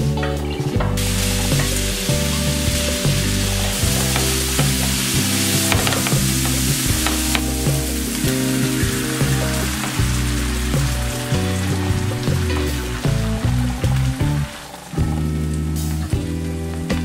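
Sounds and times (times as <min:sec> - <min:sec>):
background music: 0:00.0 - 0:17.0
vegetables sizzling in a frying pan: 0:01.0 - 0:16.1.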